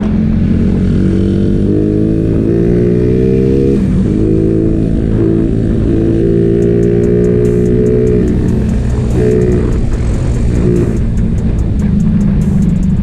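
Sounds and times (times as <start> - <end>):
low rumble: 0.0 - 13.0
motorcycle engine running: 0.0 - 13.0.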